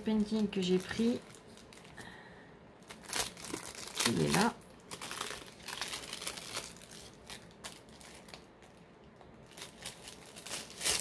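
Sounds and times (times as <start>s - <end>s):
plastic wrap crinkling and clicking: 0.0s - 2.1s, 2.8s - 11.0s.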